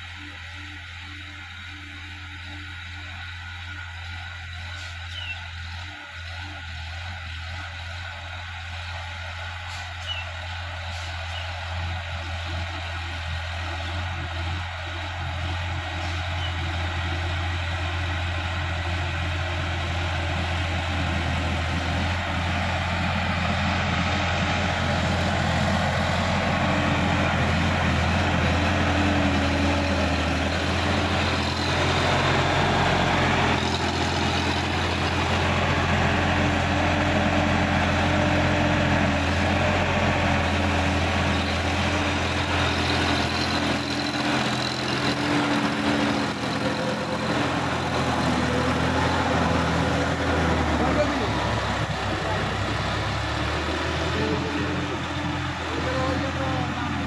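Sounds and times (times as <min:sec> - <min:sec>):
tractor diesel engine: 0:00.0 - 0:57.0.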